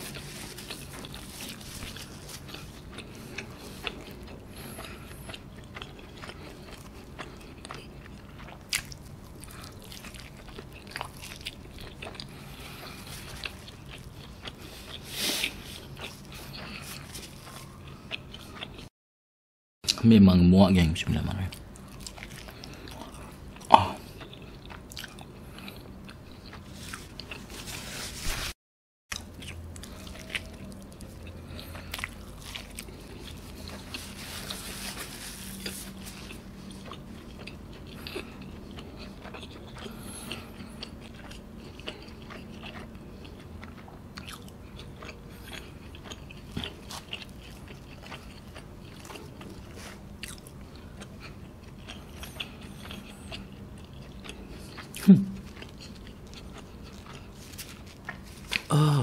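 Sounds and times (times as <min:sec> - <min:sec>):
chewing and biting pizza: 0:00.0 - 0:18.9, 0:21.4 - 0:28.5, 0:29.1 - 0:59.0.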